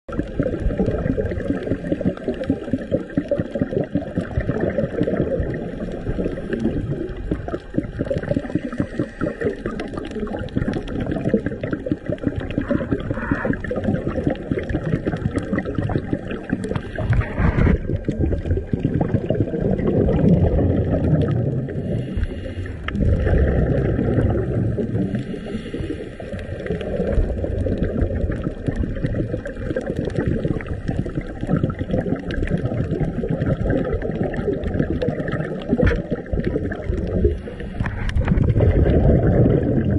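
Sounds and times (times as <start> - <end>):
diver's exhaled bubbles gurgling: 0.0 - 39.9
underwater rumble: 0.0 - 39.9.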